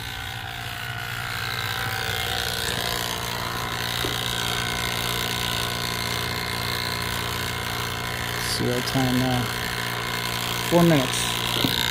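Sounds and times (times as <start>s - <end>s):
vacuum pump humming: 0.0s - 11.9s.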